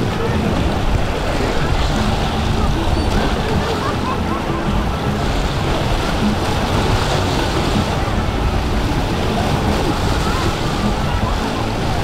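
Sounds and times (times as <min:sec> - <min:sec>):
boat engines running: 0:00.0 - 0:12.0
churning water: 0:00.0 - 0:12.0
wind on microphone: 0:00.0 - 0:12.0.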